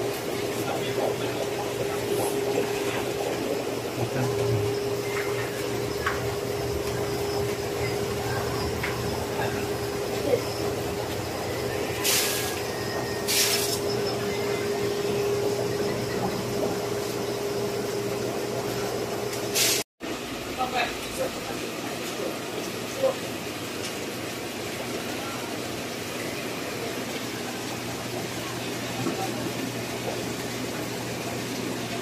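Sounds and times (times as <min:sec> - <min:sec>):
aquarium air pumps humming: 0:00.0 - 0:32.0.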